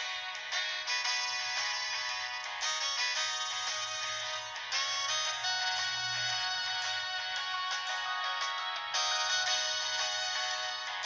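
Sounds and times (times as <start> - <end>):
cell phone ringtone melody: 0.0 - 11.0.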